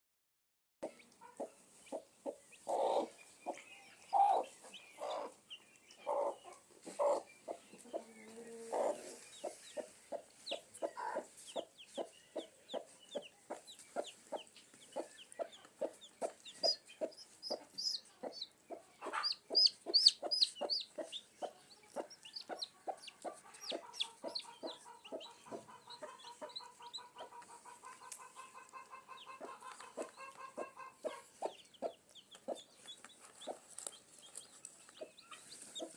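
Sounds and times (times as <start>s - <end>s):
chickens clucking: 0.8s - 35.9s.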